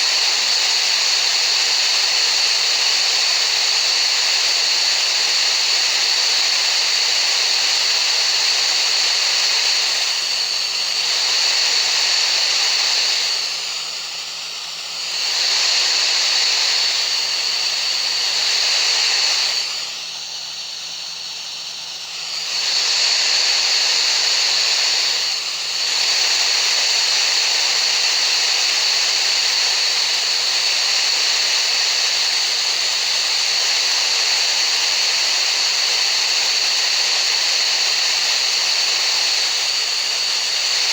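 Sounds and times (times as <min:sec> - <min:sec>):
steady hissing noise: 0:00.0 - 0:40.9.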